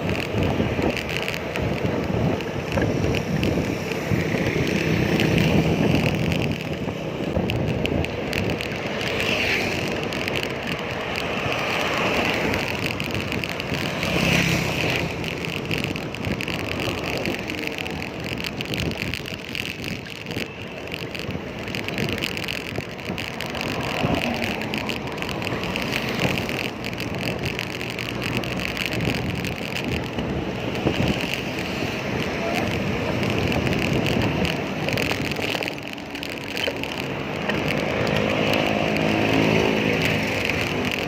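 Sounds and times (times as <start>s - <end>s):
traffic and road noise: 0.0s - 41.0s
wind buffeting microphone: 0.0s - 41.0s.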